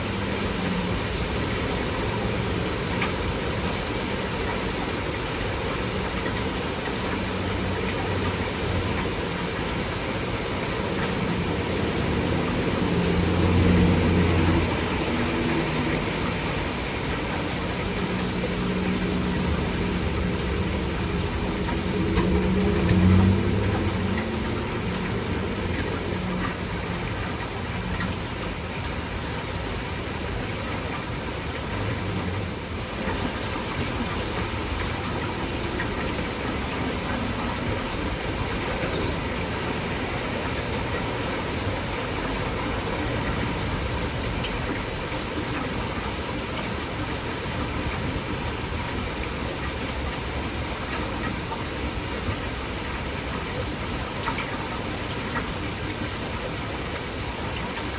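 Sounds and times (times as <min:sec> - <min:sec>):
heavy rain: 0:00.0 - 0:57.9
low engine hum: 0:00.0 - 0:57.9.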